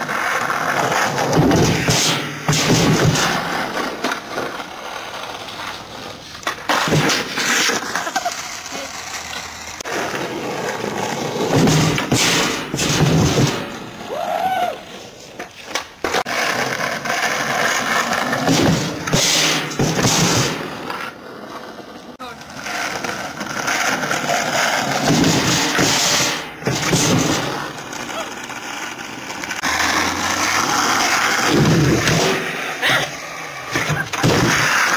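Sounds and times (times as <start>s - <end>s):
skateboard clacking: 0.0s - 14.2s, 14.9s - 34.9s
skateboard wheels rolling on asphalt: 0.0s - 34.9s.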